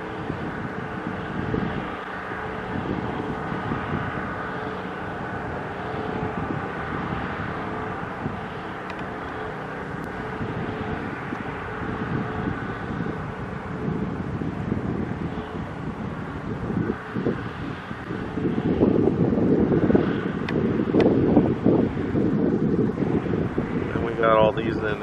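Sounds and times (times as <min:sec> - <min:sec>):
outdoor hum: 0:00.0 - 0:25.0
wind buffeting microphone: 0:00.0 - 0:25.0.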